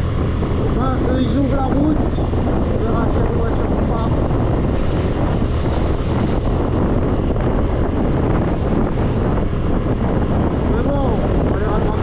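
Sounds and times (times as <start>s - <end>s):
scooter running noise: 0.0s - 12.0s
wind buffeting microphone: 0.0s - 12.0s.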